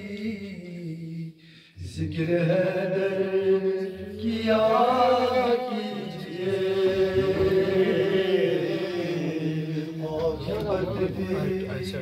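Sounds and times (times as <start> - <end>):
man singing devotional poem: 0.0 - 12.0.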